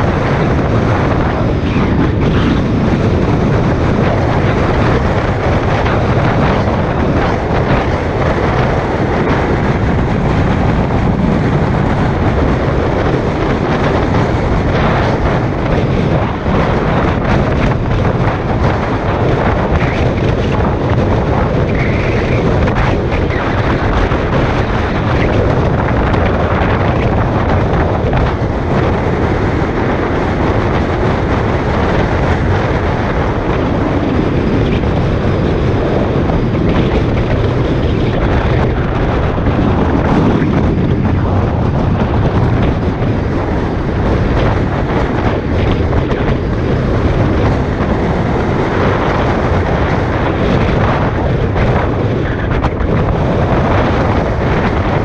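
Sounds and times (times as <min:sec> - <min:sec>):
car running noise: 0:00.0 - 0:55.0
wind buffeting microphone: 0:00.0 - 0:55.0.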